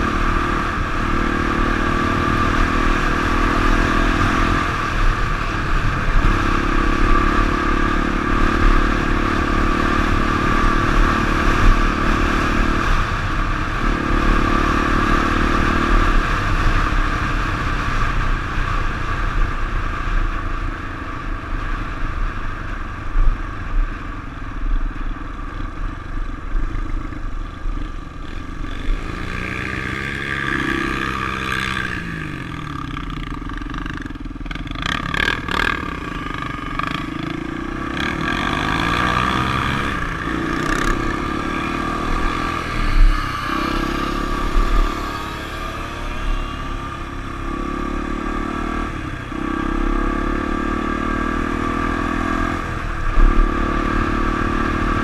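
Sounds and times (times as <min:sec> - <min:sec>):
dirt bike engine running: 0:00.0 - 0:55.0
wind and road rush: 0:00.0 - 0:55.0.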